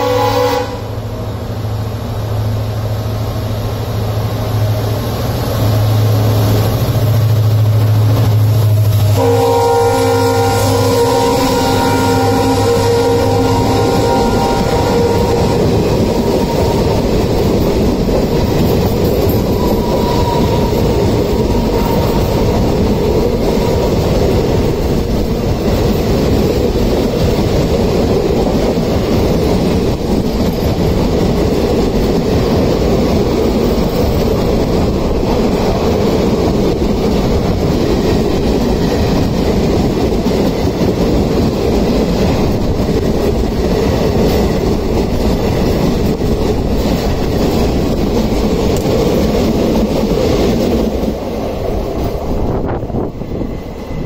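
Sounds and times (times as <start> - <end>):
steel train wheels rumbling on rail: 0.0 - 54.0.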